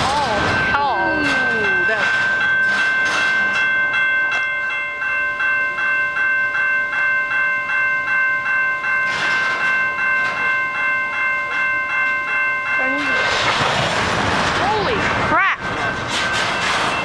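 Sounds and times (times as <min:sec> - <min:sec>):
freight train on tracks: 0:00.0 - 0:17.0
railway bell ringing: 0:00.0 - 0:17.0.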